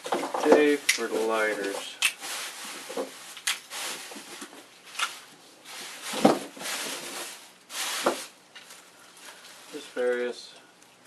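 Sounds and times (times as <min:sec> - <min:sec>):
plastic bag and tissue rustling: 0:00.0 - 0:10.5.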